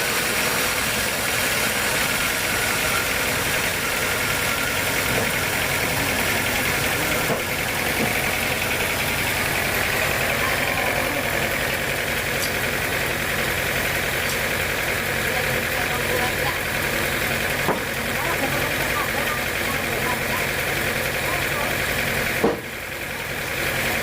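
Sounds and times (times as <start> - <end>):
sawmill machinery drone: 0.0 - 24.0.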